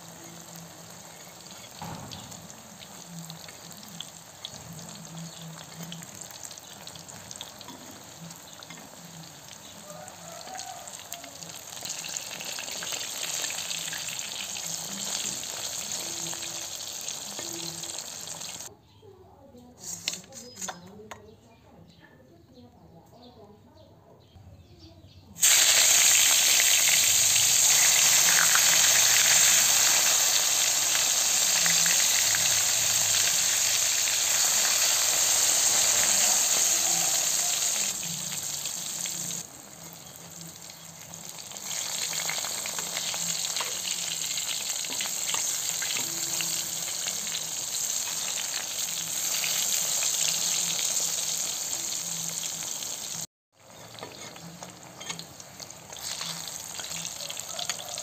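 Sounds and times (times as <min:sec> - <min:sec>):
food sizzling in hot oil: 0:00.0 - 0:18.7, 0:25.4 - 0:58.0.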